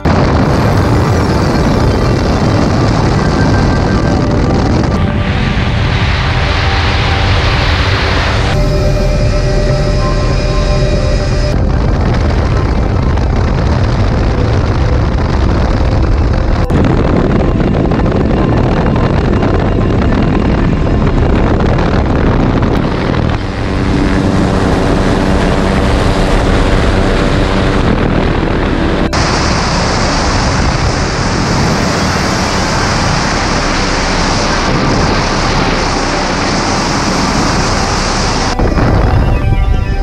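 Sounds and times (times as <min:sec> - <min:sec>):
helicopter rotor and engine drone: 0:00.0 - 0:40.0
wind rush on microphone: 0:00.0 - 0:40.0.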